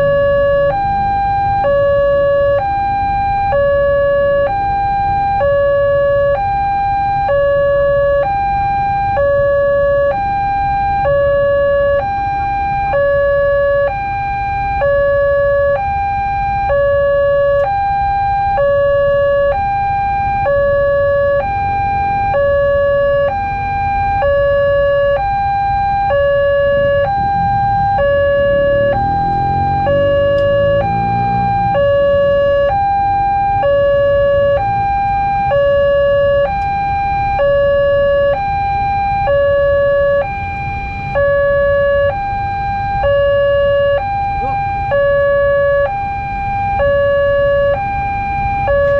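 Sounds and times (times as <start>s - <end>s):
two-tone crossing warning alarm: 0.0s - 48.9s.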